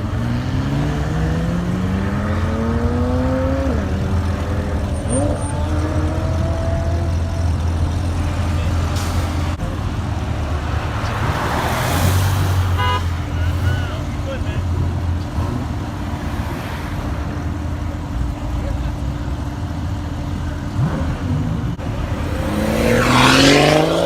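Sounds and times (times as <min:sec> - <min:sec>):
car engine accelerating: 0:00.0 - 0:12.9, 0:13.5 - 0:24.0.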